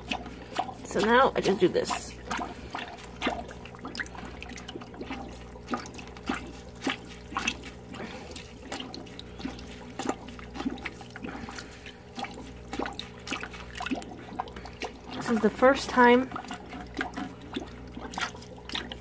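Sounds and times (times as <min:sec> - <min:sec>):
steady low hum: 0:00.0 - 0:19.0
water sloshing and splashing: 0:00.0 - 0:19.0.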